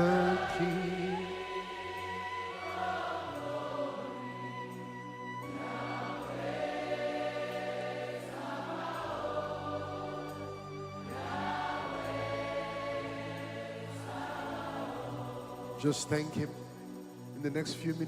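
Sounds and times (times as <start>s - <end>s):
congregation singing softly: 0.0s - 18.0s.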